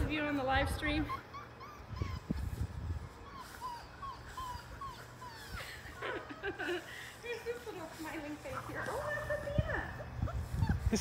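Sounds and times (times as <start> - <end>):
puppies whimpering and yipping: 0.1 - 11.0.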